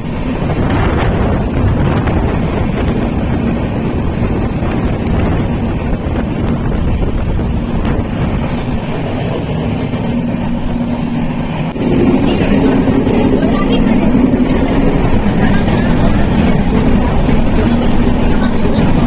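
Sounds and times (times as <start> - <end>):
train wheels rumbling on track: 0.0 - 19.0
wind buffeting microphone: 0.0 - 19.0.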